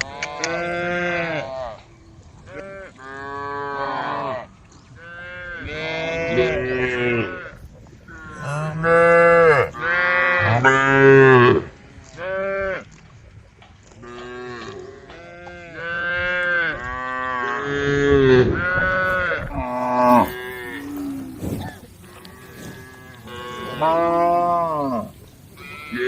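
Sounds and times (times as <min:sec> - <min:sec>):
cows mooing: 0:02.5 - 0:12.9, 0:14.0 - 0:26.0.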